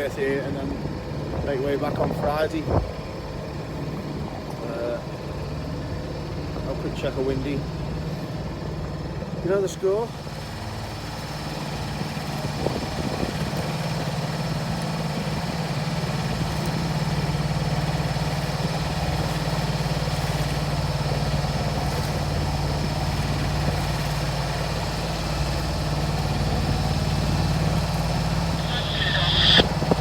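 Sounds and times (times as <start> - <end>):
boat engine running steadily: 0.0 - 30.0.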